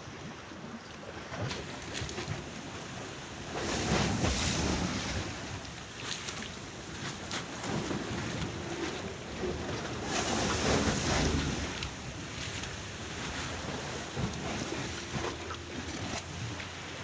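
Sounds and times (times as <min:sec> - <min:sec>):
waves slapping against hull: 0:00.0 - 0:17.0.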